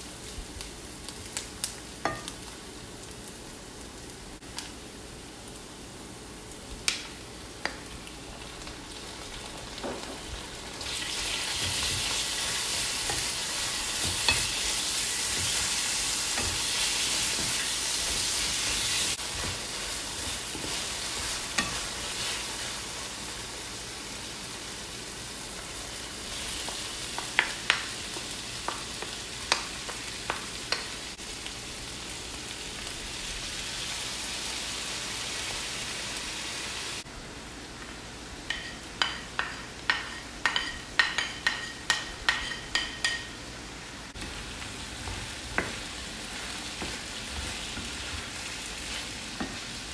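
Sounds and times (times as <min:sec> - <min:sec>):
food sizzling in hot oil: 0:00.0 - 0:49.9.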